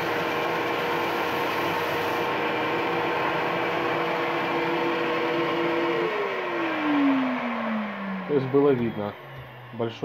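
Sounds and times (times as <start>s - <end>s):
belt sander running: 0.0s - 10.0s.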